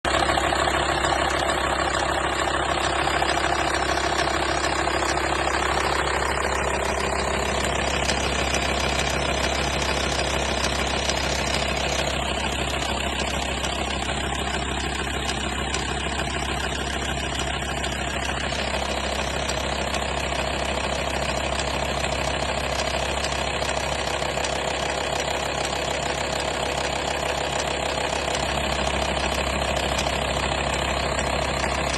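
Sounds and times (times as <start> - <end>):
diesel engine idling with rattle: 0.0 - 31.9.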